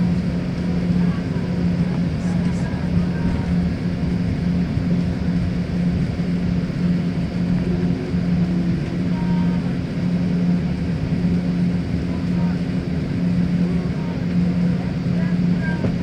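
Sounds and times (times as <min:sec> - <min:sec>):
aircraft engine drone: 0:00.0 - 0:16.0
low throbbing hum: 0:00.0 - 0:16.0.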